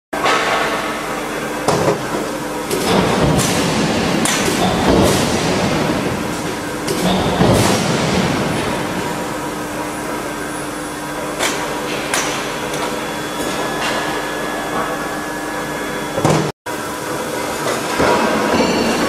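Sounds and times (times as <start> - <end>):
machinery humming: 0.2 - 19.0.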